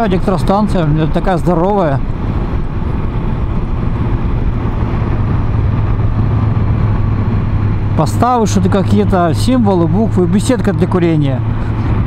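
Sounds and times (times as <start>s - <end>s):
motorcycle engine drone: 0.0s - 12.0s
wind and road noise: 0.0s - 12.0s.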